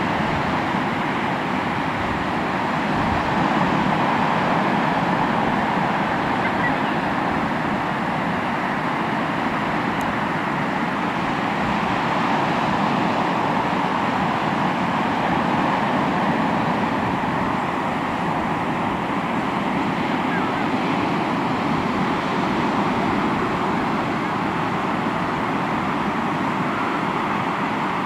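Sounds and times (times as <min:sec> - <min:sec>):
sea waves washing onto shore: 0:00.0 - 0:28.0.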